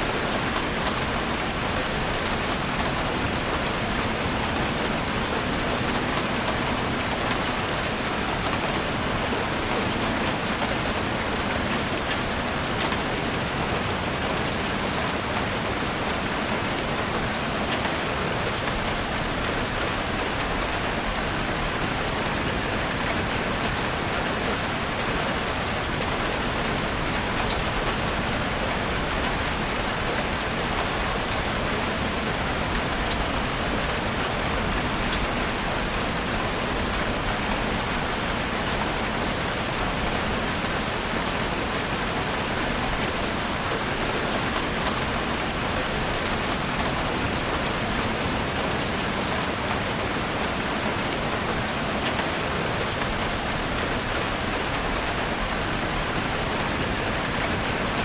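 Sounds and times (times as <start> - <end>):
heavy rain drumming on a roof: 0.0 - 58.0.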